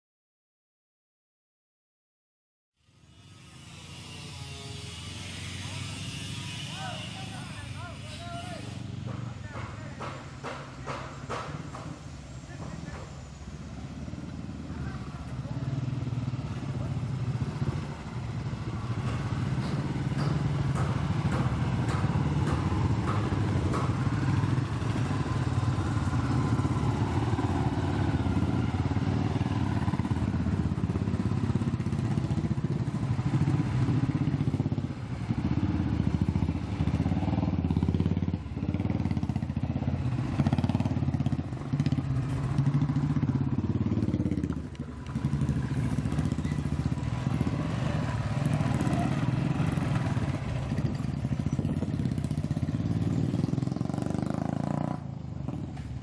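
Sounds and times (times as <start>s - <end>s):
motorcycle engine running: 8.8s - 56.0s.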